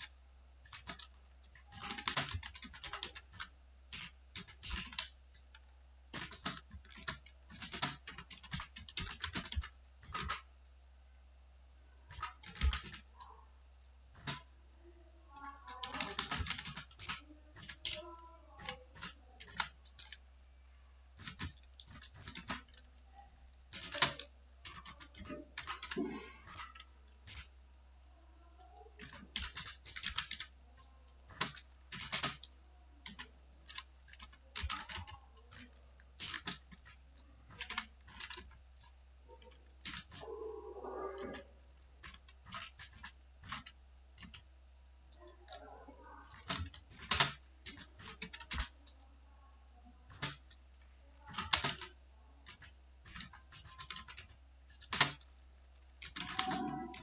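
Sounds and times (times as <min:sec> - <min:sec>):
keyboard keys clicking: 0:00.0 - 0:10.5, 0:12.1 - 0:13.4, 0:14.1 - 0:14.5, 0:15.3 - 0:20.2, 0:21.1 - 0:27.5, 0:28.5 - 0:44.5, 0:45.1 - 0:49.0, 0:49.8 - 0:57.0.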